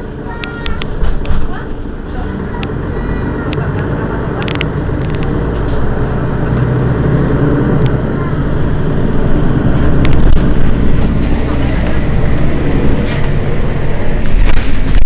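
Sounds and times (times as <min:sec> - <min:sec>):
bus diesel engine idling: 0:00.0 - 0:14.9.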